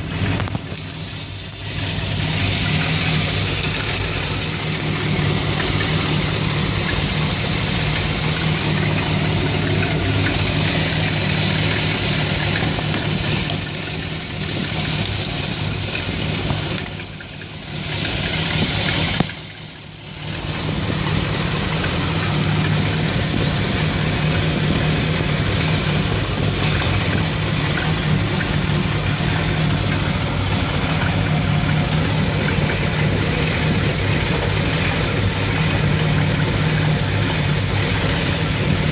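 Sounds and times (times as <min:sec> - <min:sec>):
van engine idling roughly: 0:00.0 - 0:38.9.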